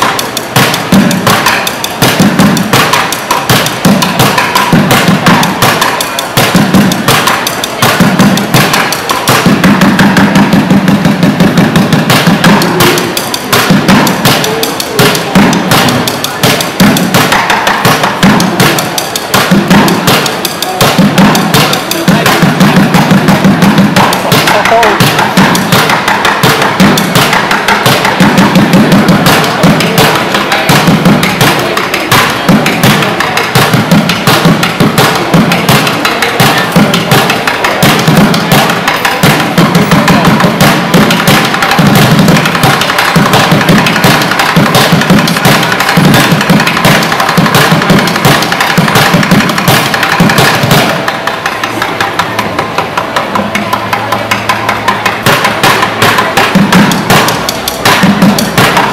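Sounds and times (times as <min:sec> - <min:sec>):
sticks drumming on plastic buckets: 0:00.0 - 0:58.9.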